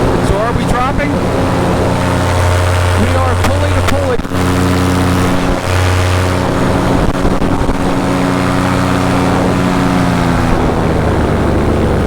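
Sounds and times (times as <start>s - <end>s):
paramotor engine running: 0.0s - 12.0s.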